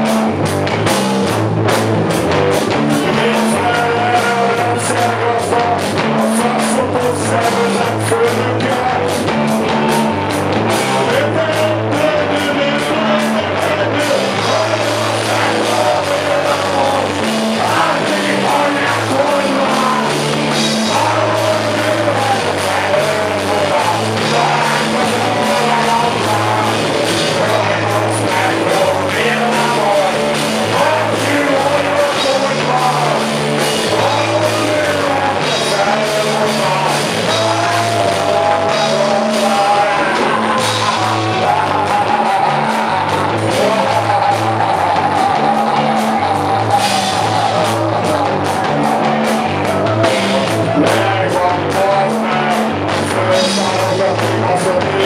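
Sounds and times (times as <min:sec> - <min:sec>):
drum kit: 0:00.0 - 0:55.0
electric guitar: 0:00.0 - 0:55.0
low bass line: 0:00.0 - 0:55.0
man singing: 0:02.6 - 0:55.0.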